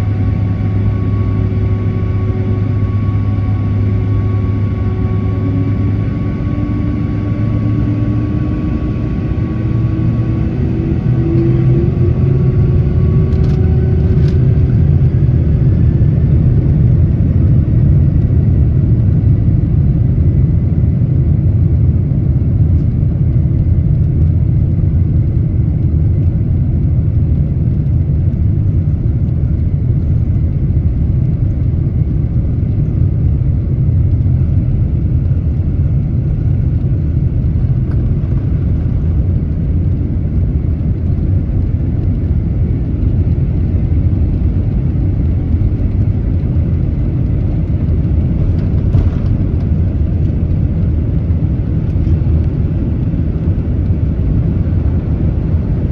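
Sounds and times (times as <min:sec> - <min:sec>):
jet engines and airflow rumble: 0:00.0 - 0:55.9.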